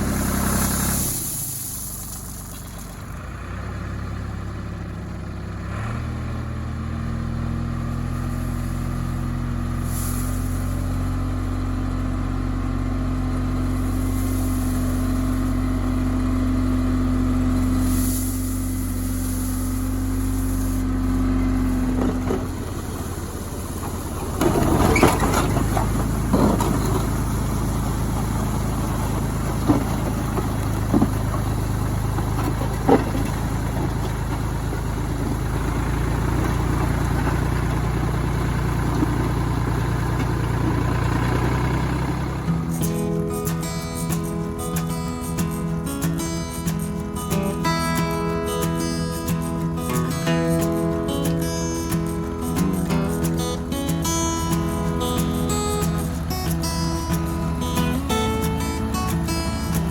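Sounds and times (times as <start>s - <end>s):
gravel crunching and scraping: 0.0s - 59.9s
tractor engine running: 0.0s - 59.9s.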